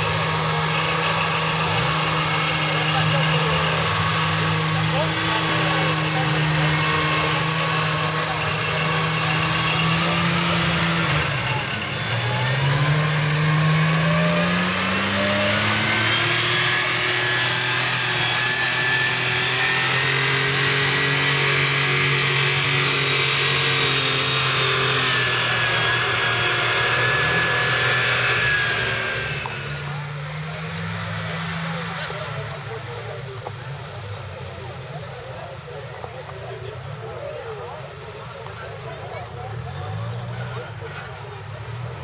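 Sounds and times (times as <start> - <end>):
truck engine under load: 0.0 - 42.0.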